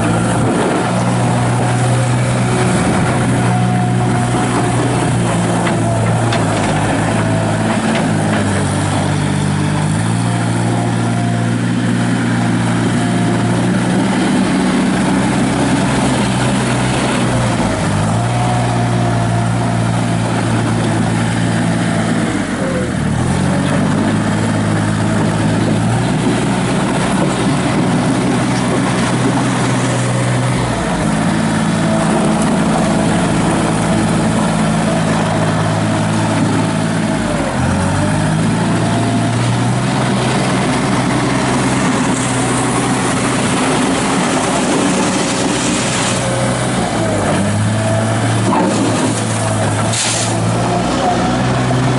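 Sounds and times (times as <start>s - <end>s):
loader engine running: 0.0s - 51.9s.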